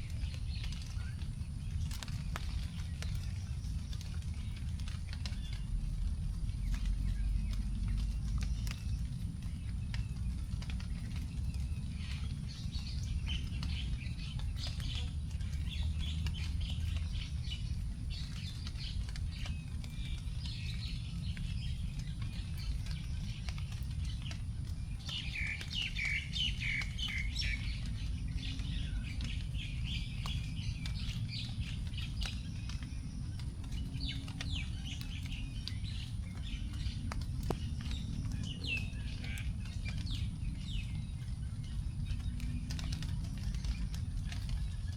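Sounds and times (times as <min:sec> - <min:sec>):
raindrops dripping onto leaves: 0:00.0 - 0:44.9
small birds chirping: 0:00.0 - 0:44.9
steady low rumble: 0:00.0 - 0:44.9.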